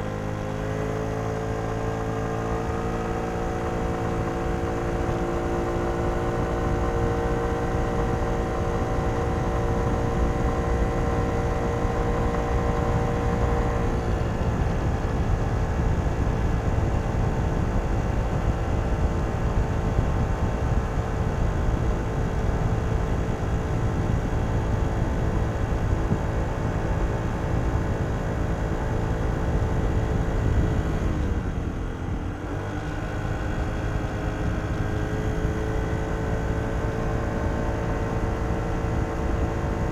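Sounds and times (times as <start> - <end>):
low wind: 0.0 - 39.9
road rumble: 0.0 - 39.9
scooter engine running: 0.0 - 39.9.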